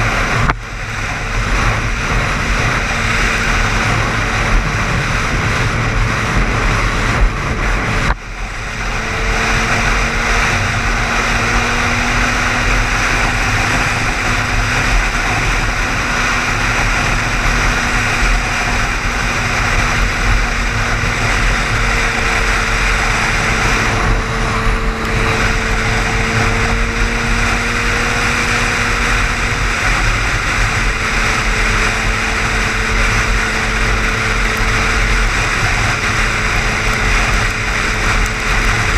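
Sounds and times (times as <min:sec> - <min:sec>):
car road and wind noise: 0:00.0 - 0:38.9
constant low hum: 0:00.0 - 0:38.9.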